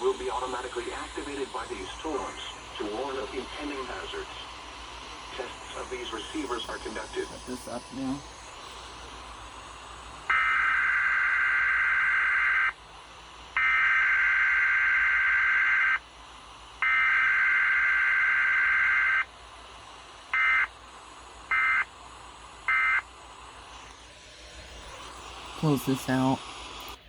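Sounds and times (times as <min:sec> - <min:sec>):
steady hiss: 0:00.0 - 0:13.6, 0:16.0 - 0:16.8, 0:19.2 - 0:27.0.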